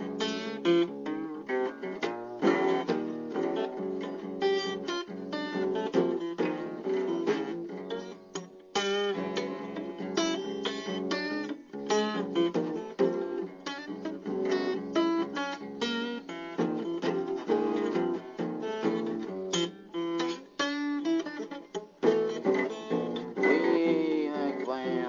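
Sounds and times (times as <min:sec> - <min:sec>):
acoustic guitar plucked notes: 0:00.0 - 0:25.0.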